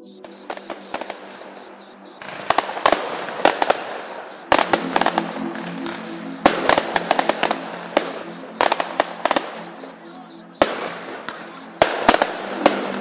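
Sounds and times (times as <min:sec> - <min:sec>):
music playing: 0:00.0 - 0:13.0
firework bangs and crackles: 0:00.2 - 0:01.6, 0:02.2 - 0:09.8, 0:10.6 - 0:13.0.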